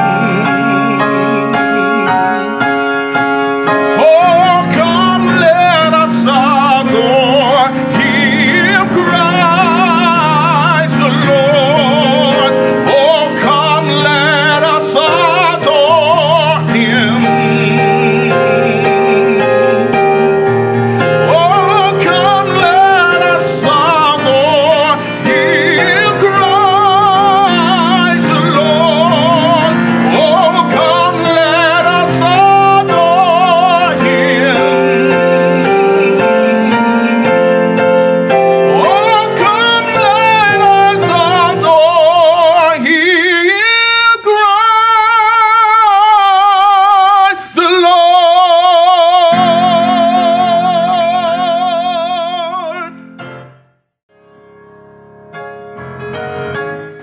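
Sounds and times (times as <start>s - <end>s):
man singing operatically: 0.0s - 2.9s, 3.6s - 53.2s
piano accompaniment: 0.0s - 57.0s.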